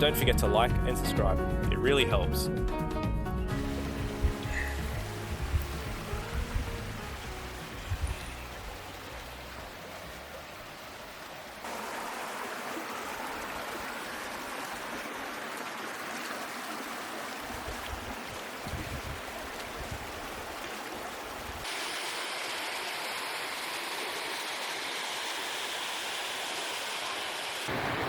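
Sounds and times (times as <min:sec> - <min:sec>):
flowing water of creek and waterfall: 0:03.5 - 0:28.0.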